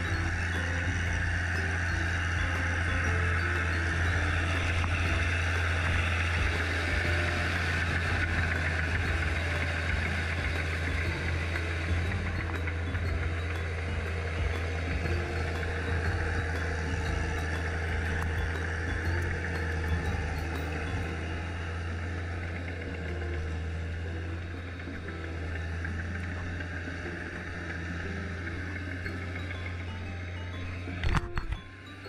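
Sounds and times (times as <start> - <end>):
tractor engine droning: 0.0 - 32.0
wheels churning mud and water: 0.0 - 32.0.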